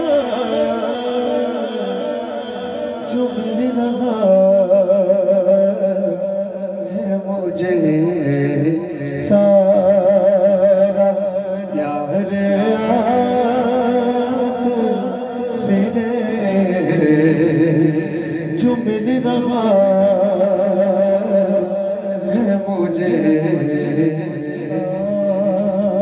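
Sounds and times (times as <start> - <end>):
man singing wavering notes: 0.0 - 26.0.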